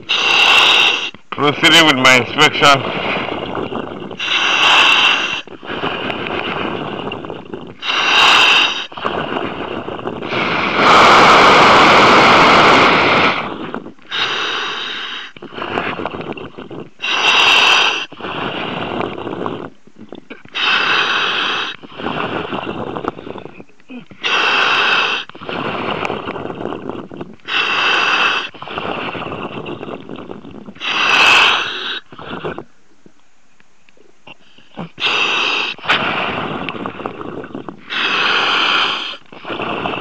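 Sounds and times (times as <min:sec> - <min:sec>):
diver breathing through regulator: 0:00.0 - 0:32.8, 0:34.3 - 0:40.0.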